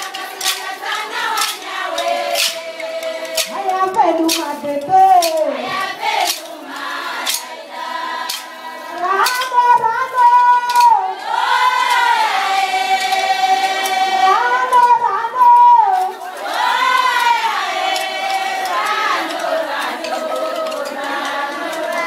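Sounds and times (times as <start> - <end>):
women singing together: 0.0 - 22.0.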